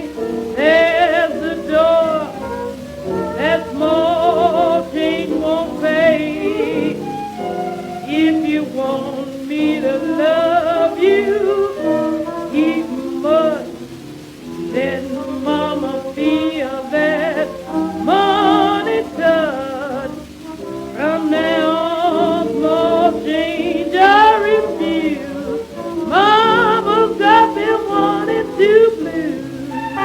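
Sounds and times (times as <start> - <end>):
old jazz-blues band recording: 0.0 - 30.0.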